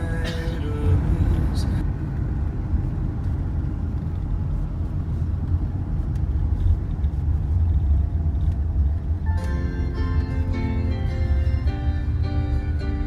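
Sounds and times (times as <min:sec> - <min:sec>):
vehicle road rumble: 0:00.0 - 0:13.0.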